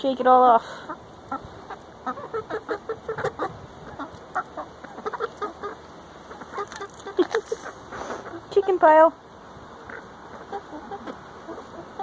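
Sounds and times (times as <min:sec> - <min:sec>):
hens clucking: 0:00.6 - 0:12.0.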